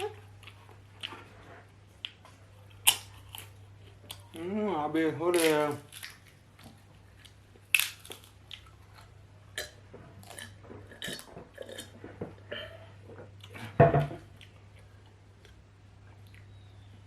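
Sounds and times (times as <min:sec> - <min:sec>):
person chewing food: 0:00.1 - 0:04.4, 0:05.8 - 0:17.0.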